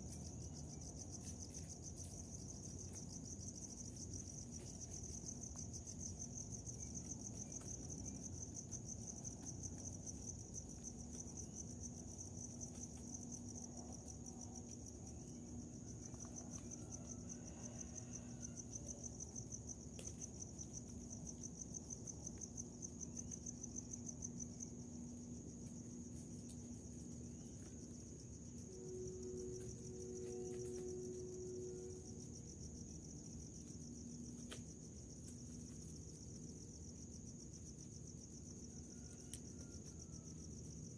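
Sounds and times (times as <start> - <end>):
crickets trilling: 0.0 - 40.9
faint low hum: 0.0 - 40.9.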